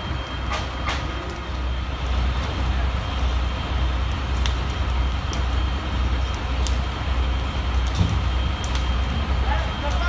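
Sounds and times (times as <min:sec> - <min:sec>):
diesel engine rumble: 0:00.0 - 0:10.0
fire crackling: 0:00.0 - 0:10.0.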